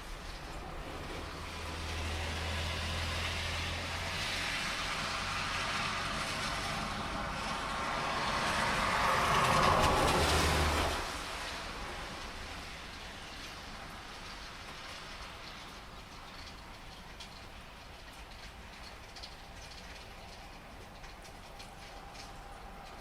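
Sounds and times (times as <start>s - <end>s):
steady rain: 0.0s - 23.0s
tyres hissing on wet road: 0.0s - 23.0s.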